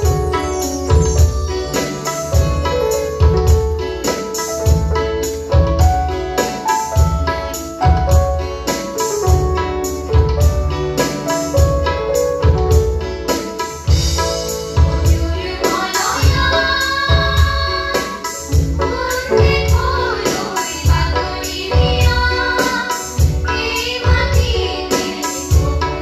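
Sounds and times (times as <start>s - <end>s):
keyboard playing: 0.0s - 26.0s.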